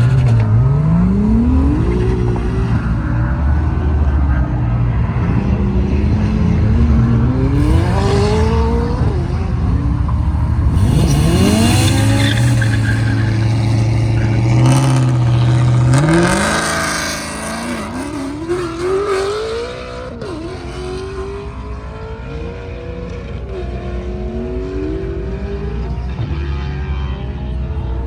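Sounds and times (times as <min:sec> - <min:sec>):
sports car accelerating: 0:00.0 - 0:28.0.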